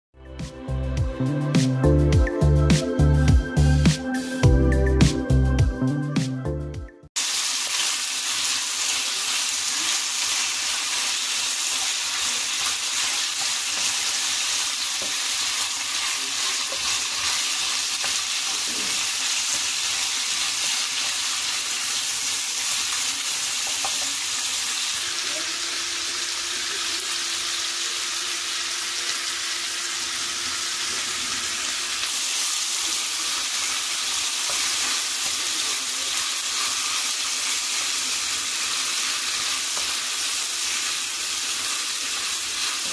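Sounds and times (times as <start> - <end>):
meat sizzling in a frying pan: 7.2 - 42.9.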